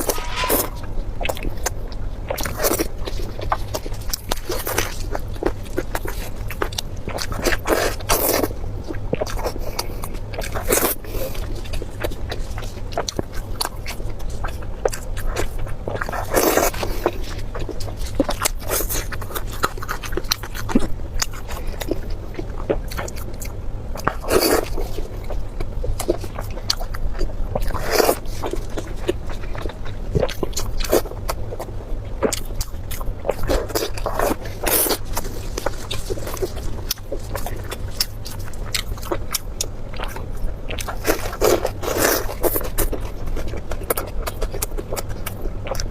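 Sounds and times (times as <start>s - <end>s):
crunching and slurping: 0.0s - 45.9s
low steady hum: 0.0s - 45.9s
person chewing: 0.0s - 45.9s.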